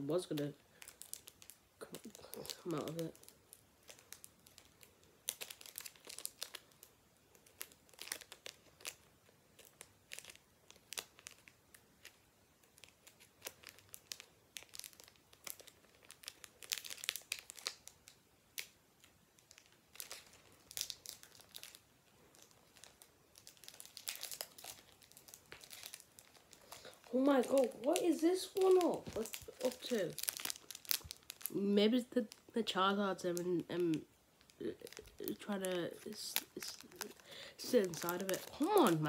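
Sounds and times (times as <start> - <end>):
foil wrapper crinkling and tearing: 0.1 - 39.0.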